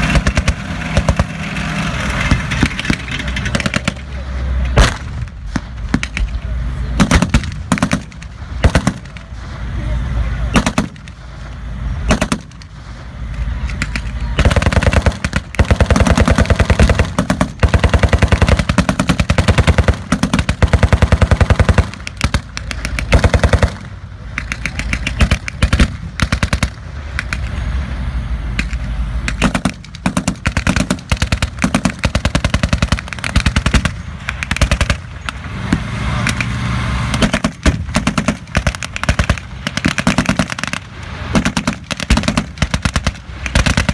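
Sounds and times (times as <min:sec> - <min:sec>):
machine guns firing bursts: 0:00.0 - 0:06.4, 0:07.0 - 0:09.3, 0:10.5 - 0:11.2, 0:12.1 - 0:12.6, 0:13.8 - 0:27.4, 0:29.3 - 0:35.4, 0:37.1 - 0:43.9
tracked vehicle engines running: 0:00.0 - 0:43.9.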